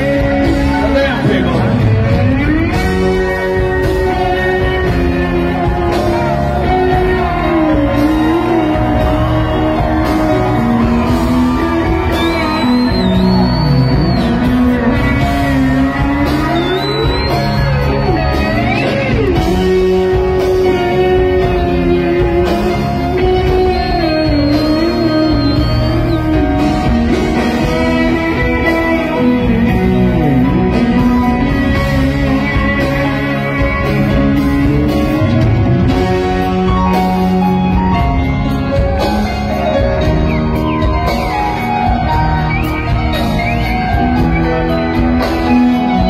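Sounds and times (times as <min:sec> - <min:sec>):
live rock band playing: 0:00.0 - 0:46.0
electric guitar long wavering notes: 0:01.6 - 0:46.0.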